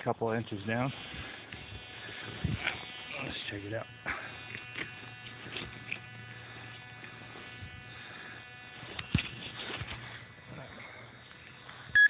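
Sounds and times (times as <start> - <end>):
low electronic buzz: 0.0 - 12.0.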